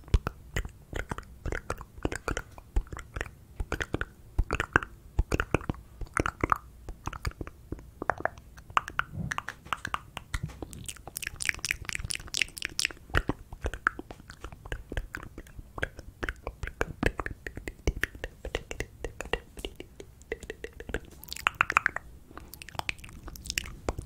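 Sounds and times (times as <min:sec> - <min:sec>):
hissy sibilant mouth sounds: 0:00.0 - 0:24.0
wet mouth clicks and smacks: 0:00.0 - 0:24.0.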